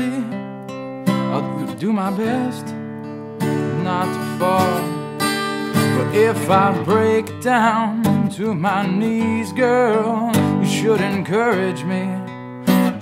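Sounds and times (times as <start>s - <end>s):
man singing wordless notes: 0.0s - 0.4s, 1.2s - 2.8s, 3.6s - 5.1s, 5.8s - 13.0s
acoustic guitar strummed: 0.0s - 13.0s.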